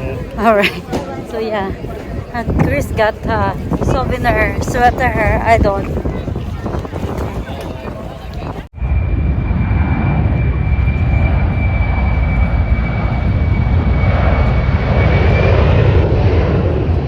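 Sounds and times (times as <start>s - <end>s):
airplane engine rumble: 0.0s - 17.0s.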